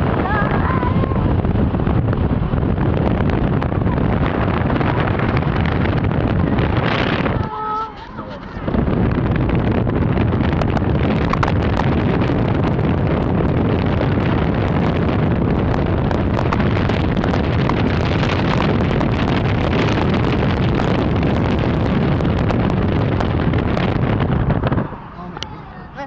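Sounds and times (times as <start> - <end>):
car road and engine rumble: 0.0 - 26.0
wind buffeting microphone: 0.0 - 26.0.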